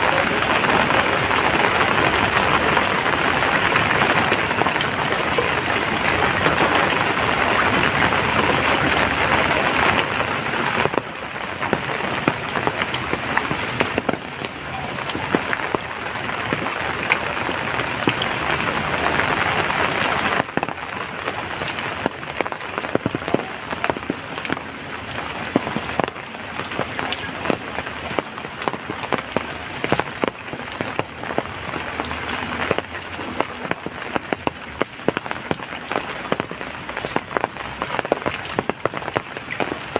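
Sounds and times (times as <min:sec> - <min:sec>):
raindrops tapping: 0:00.0 - 0:39.9
steady rainfall: 0:00.0 - 0:39.9.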